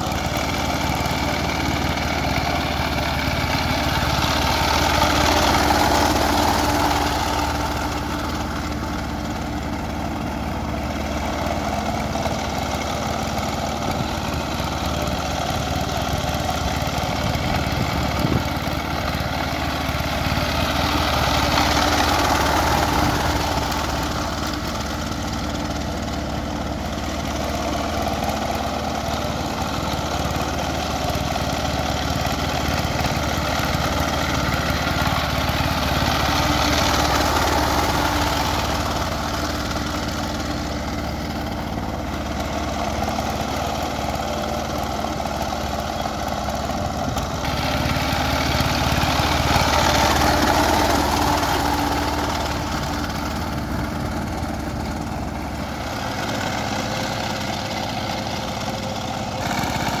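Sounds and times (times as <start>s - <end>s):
diesel engine running under load: 0.0s - 60.0s.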